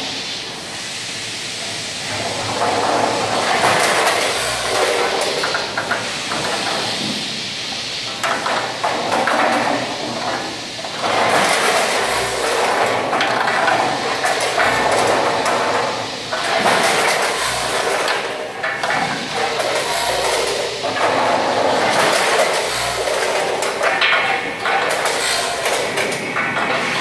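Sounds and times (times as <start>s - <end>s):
steady machine noise: 0.0s - 27.0s
food pieces clattering into metal hoppers: 2.3s - 6.8s, 8.1s - 27.0s.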